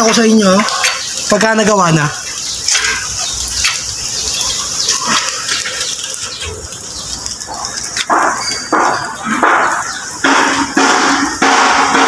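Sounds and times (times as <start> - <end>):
pigs calling: 0.4 - 1.3, 2.1 - 11.3.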